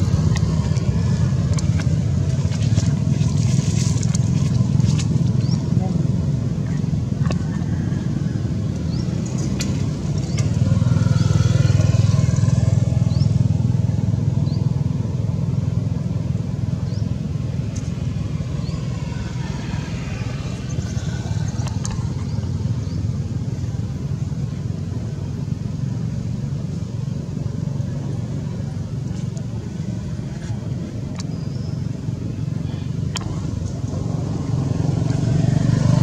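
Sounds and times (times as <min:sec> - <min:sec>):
vehicle engine passing: 0:00.0 - 0:36.0.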